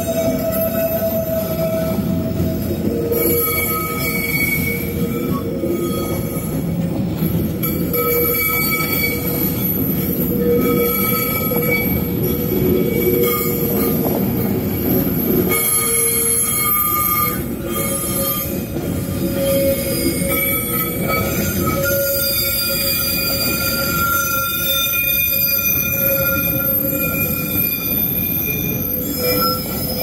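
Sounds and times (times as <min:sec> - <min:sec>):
freight train rumbling past: 0:00.0 - 0:30.0
train wheels squealing on rails: 0:00.0 - 0:30.0.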